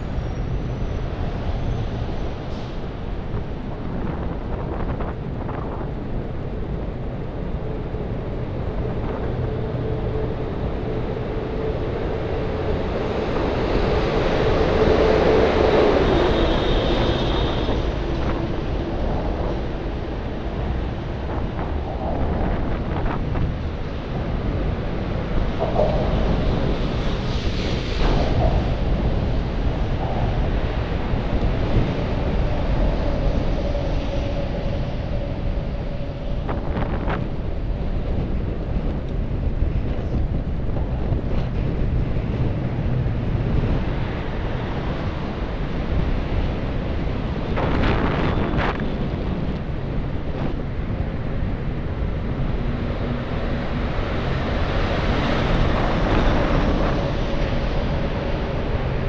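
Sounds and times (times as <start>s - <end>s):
low rumble of motor traffic: 0.0s - 59.0s
wind rushing over microphone: 0.0s - 59.0s.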